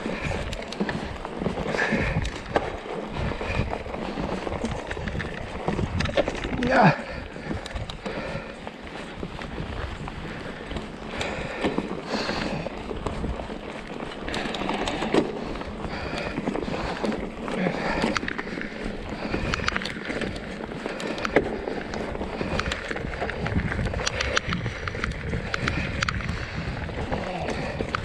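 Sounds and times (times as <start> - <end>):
bike clicks and rattles: 0.0 - 28.0
bike tyres on loose ground: 0.0 - 28.0.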